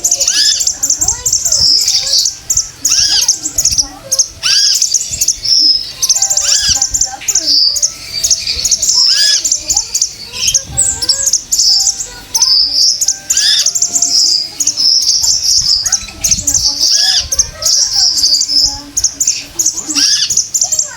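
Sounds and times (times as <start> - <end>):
arched bird call notes: 0.0 - 20.9
bird chirps and trills: 0.0 - 20.9.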